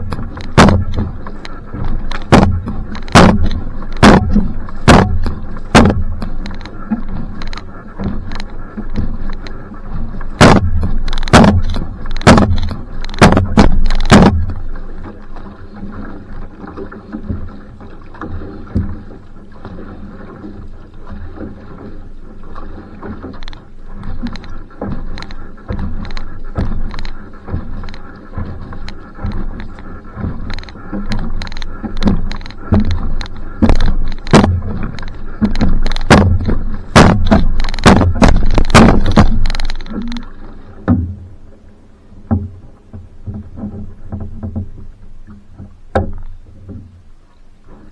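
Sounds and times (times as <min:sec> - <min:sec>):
canoe paddle splashing and knocking: 0:00.0 - 0:47.9.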